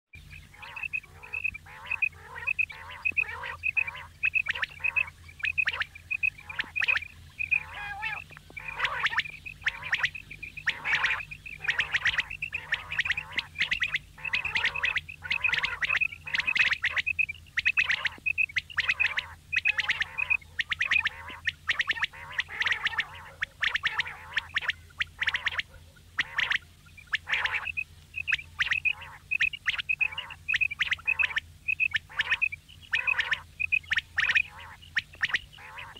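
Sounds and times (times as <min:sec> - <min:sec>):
low hum: 0:00.2 - 0:30.8
quail calling: 0:00.2 - 0:35.9.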